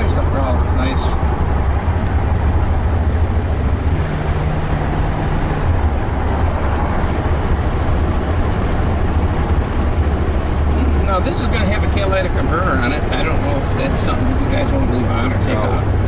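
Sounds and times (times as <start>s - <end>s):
car engine and road rumble: 0.0s - 16.0s
tyres on wet road: 0.0s - 16.0s.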